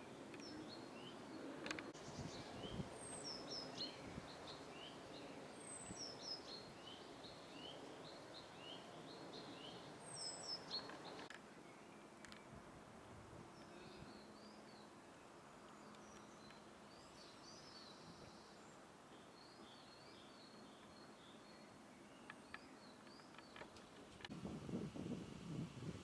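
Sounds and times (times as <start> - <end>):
small birds chirping: 0.0 - 12.6, 13.4 - 24.3.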